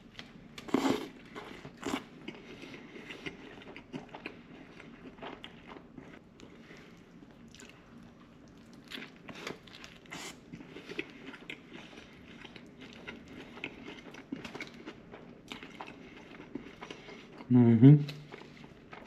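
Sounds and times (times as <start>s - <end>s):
close chewing mouth sounds: 0.6s - 19.0s.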